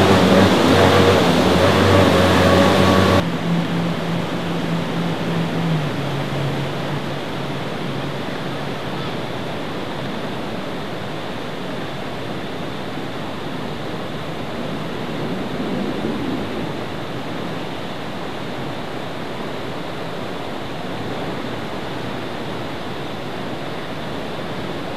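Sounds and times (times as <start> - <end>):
turbulent white water rushing: 0.0 - 24.9
watercraft engine humming: 0.0 - 24.9.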